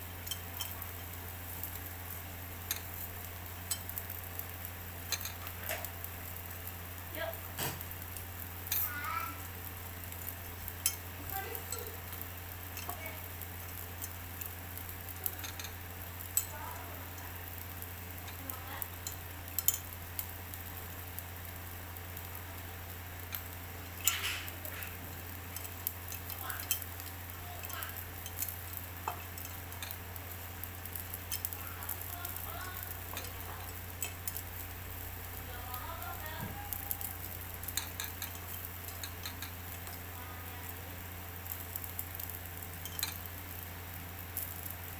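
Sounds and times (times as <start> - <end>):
meat sizzling on charcoal grill: 0.0 - 44.9
small crackles and pops: 0.0 - 44.9
steady low hum: 0.0 - 44.9.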